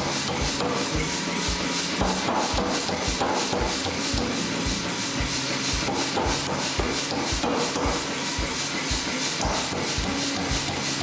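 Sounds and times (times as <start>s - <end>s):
machine running noise: 0.0s - 11.0s
power hammer blows on steel: 0.0s - 11.0s.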